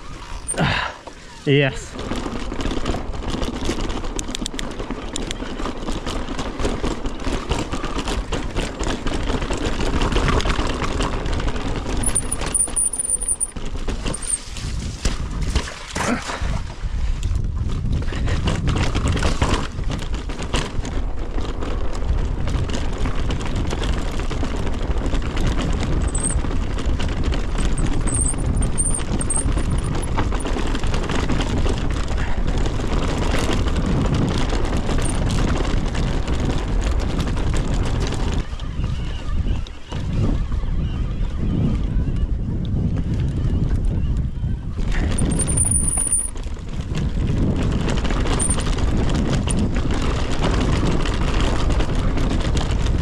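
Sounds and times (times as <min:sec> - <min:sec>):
bike knocking and rattling: 0:00.0 - 0:16.6, 0:17.2 - 0:53.0
wind rushing over microphone: 0:00.0 - 0:53.0.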